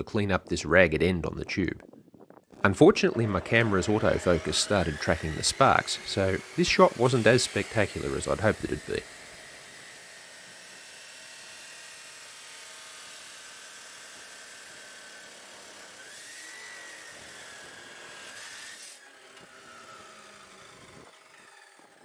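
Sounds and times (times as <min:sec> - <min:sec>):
chop saw grinding through pipe: 0:02.7 - 0:22.0.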